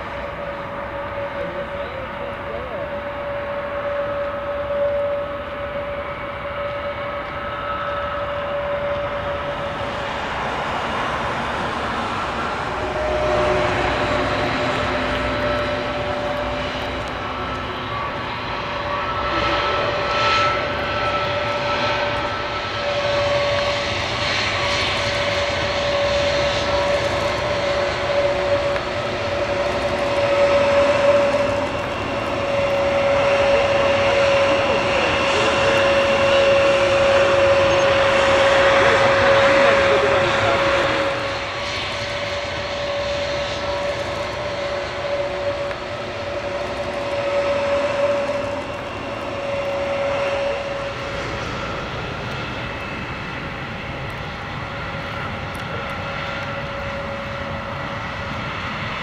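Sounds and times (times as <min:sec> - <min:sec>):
jet engine whine and roar: 0:00.0 - 0:59.0.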